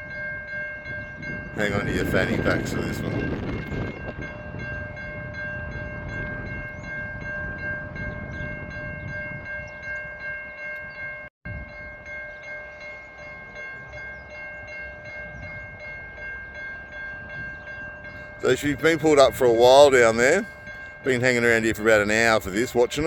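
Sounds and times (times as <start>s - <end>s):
freight train rumbling: 0.0s - 23.0s
high ringing tone: 0.0s - 23.0s.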